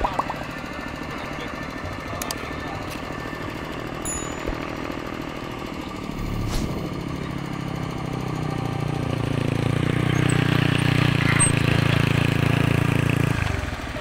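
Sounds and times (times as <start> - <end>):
engine chugging: 0.0 - 14.0.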